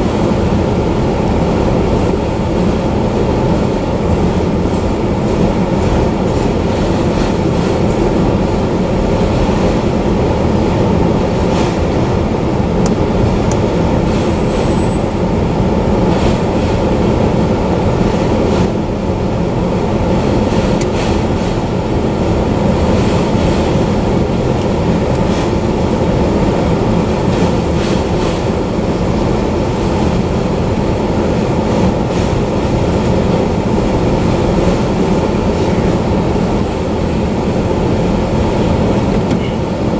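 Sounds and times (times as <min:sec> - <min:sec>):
rumble of wheels on rail: 0:00.0 - 0:39.9.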